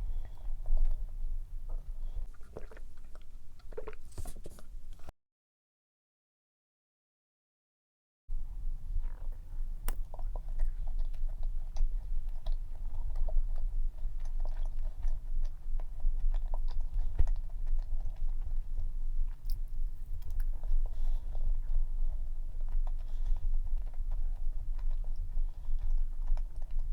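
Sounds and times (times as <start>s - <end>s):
chewing cookie close-up: 0.0s - 5.1s, 8.3s - 26.9s
steady low hum: 0.0s - 5.1s, 8.3s - 26.9s.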